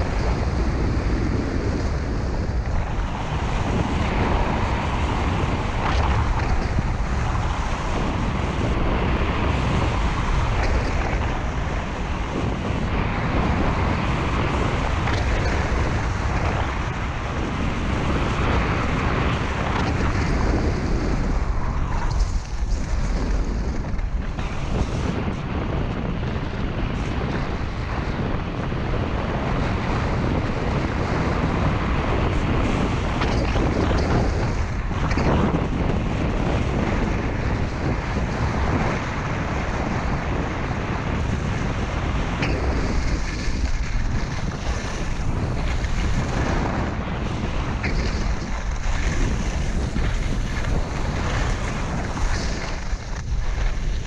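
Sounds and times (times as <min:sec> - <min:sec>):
skis scraping over snow: 0:00.0 - 0:54.0
wind buffeting microphone: 0:00.0 - 0:54.0.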